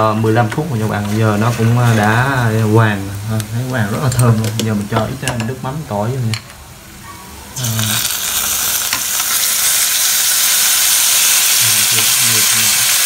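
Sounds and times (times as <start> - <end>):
liquid sizzling in hot oil: 0.1 - 7.0, 7.6 - 13.0.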